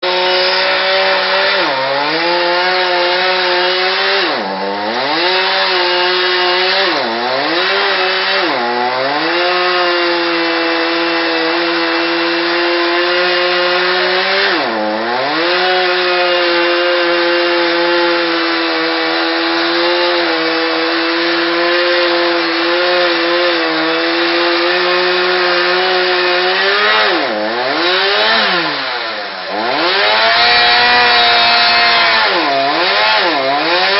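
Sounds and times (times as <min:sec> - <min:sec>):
chainsaw cutting into a tree: 0:00.0 - 0:33.9.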